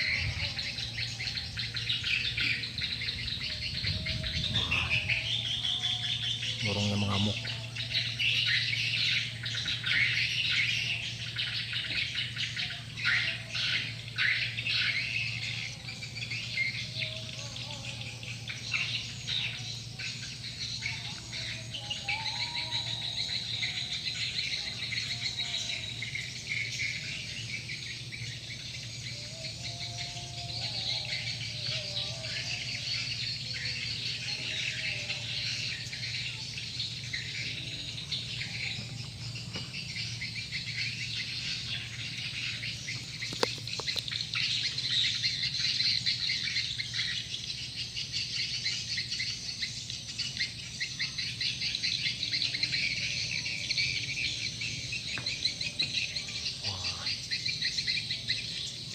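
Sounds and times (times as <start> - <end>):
steady low hum: 0.0 - 58.9
swiftlets chirping and twittering: 0.0 - 58.9.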